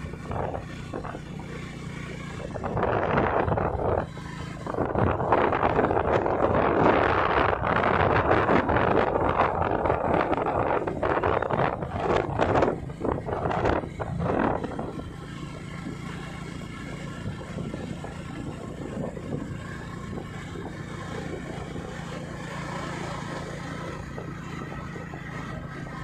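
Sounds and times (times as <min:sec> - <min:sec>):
road and wind noise: 0:00.0 - 0:26.0
vehicle engine running: 0:00.0 - 0:26.0.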